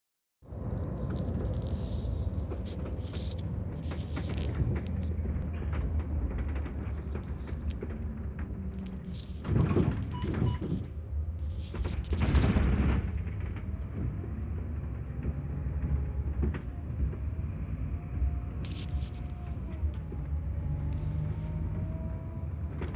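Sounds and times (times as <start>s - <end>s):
road noise: 0.4s - 22.9s
diesel engine drone: 0.5s - 22.9s.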